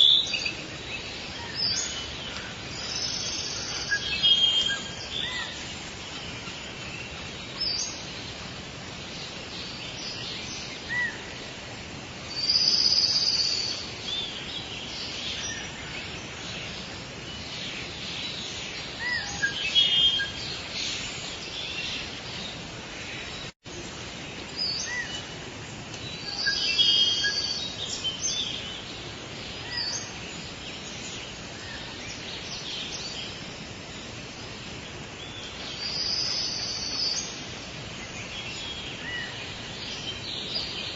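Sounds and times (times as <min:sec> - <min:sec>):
birds chirping and calling: 0:00.0 - 0:11.6, 0:12.3 - 0:23.5, 0:24.2 - 0:40.9
steady background hiss: 0:00.0 - 0:40.9.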